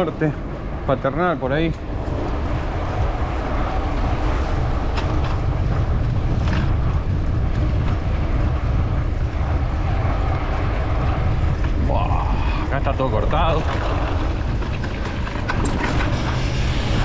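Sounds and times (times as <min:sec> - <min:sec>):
street and riding rumble: 0:00.0 - 0:17.0.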